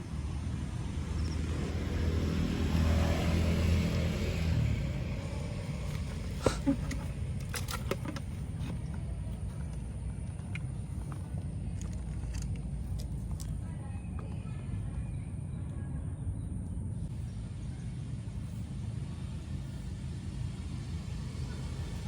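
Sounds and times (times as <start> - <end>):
engine passing by: 0.0 - 22.0.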